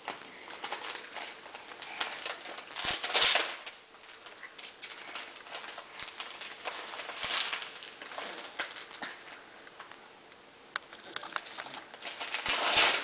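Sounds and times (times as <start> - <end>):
gift wrapping crinkling: 0.0 - 9.5, 10.9 - 13.0.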